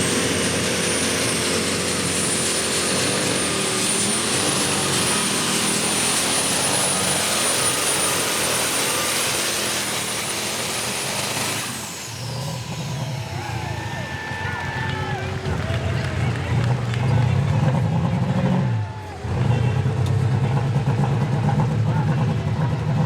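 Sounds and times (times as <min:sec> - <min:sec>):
tractor engine roar: 0:00.0 - 0:23.0
turbocharger whine: 0:00.0 - 0:23.0.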